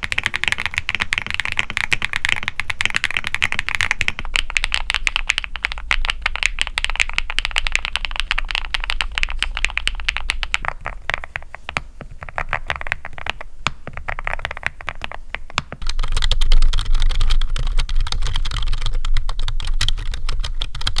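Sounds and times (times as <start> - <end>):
mechanical keyboard typing: 0.0 - 21.0.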